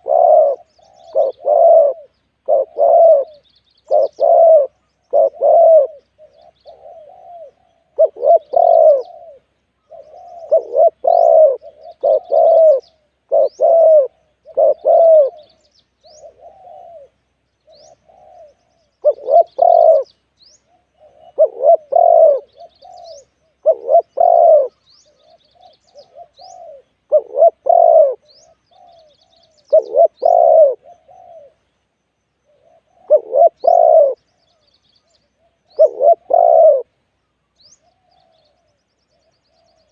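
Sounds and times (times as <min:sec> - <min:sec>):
dove cooing: 0:00.0 - 0:31.7, 0:32.4 - 0:37.0, 0:37.6 - 0:39.9
small birds chirping: 0:00.0 - 0:39.9.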